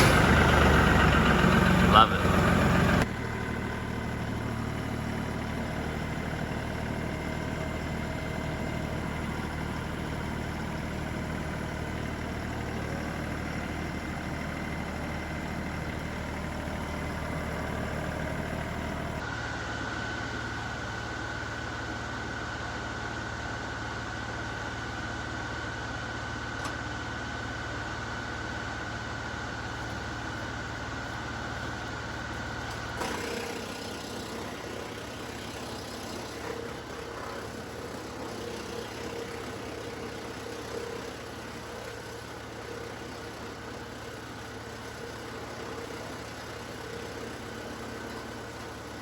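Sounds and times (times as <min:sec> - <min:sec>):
tractor diesel engine running: 0:00.0 - 0:49.0
wood chipper: 0:00.0 - 0:49.0.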